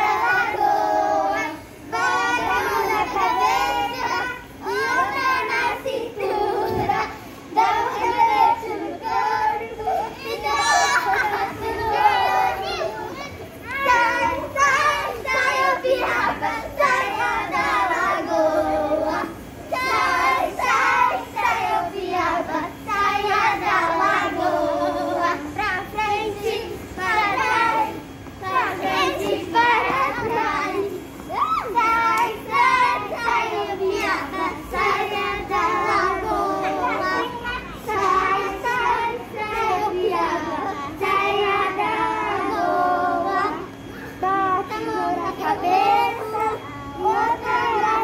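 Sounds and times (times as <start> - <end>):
young children singing: 0.0 - 48.0.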